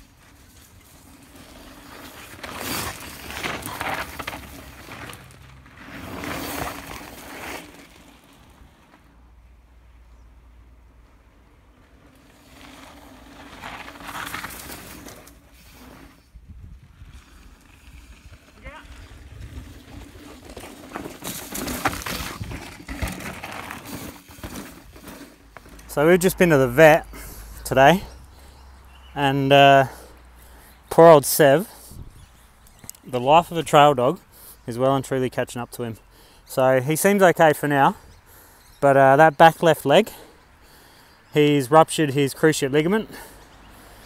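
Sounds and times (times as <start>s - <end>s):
bike tyres crunching on dirt: 0.0s - 9.4s, 11.0s - 44.0s.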